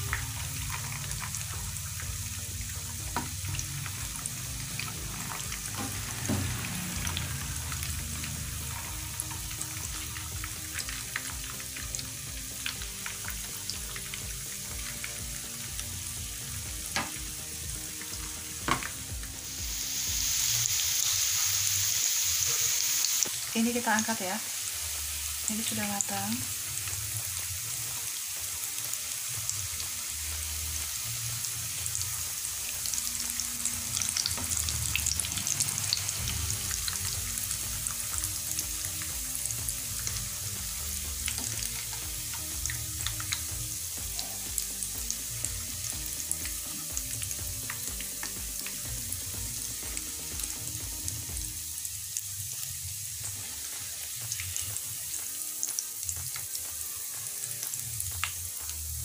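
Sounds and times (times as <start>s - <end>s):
food deep-frying in hot oil: 0.0s - 59.0s.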